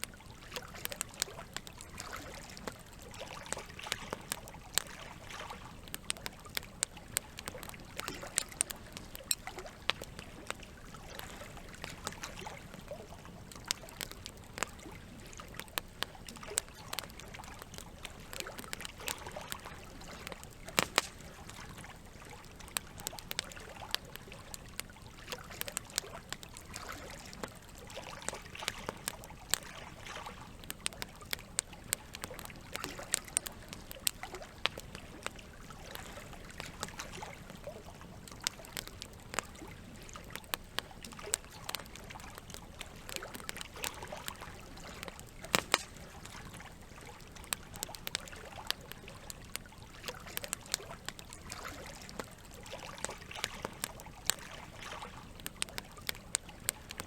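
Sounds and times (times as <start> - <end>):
campfire crackling: 0.0 - 57.0
running water trickling: 0.0 - 57.0.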